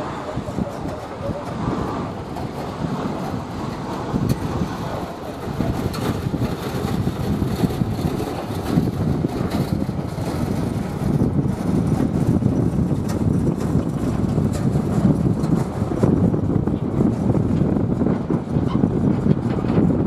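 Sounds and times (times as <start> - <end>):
jet engine noise: 0.0 - 20.0
wind on microphone: 0.0 - 20.0.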